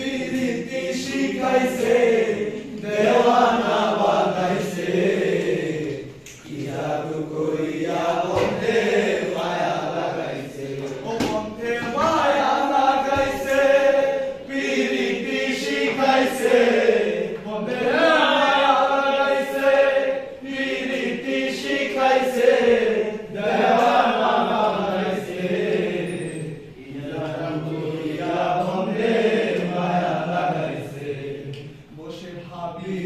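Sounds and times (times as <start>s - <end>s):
group singing folk song: 0.0s - 33.0s.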